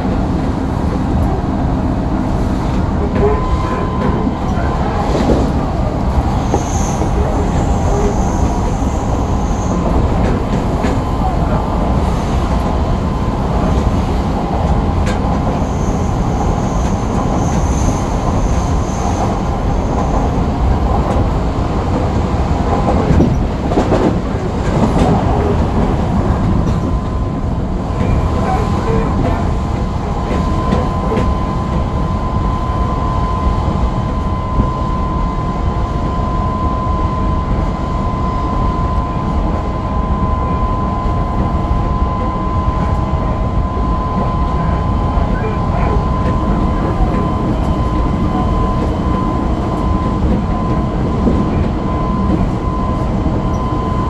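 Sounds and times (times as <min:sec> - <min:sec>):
rail joints clickety-clack: 0:00.0 - 0:54.0
wheels rumbling on rail: 0:00.0 - 0:54.0.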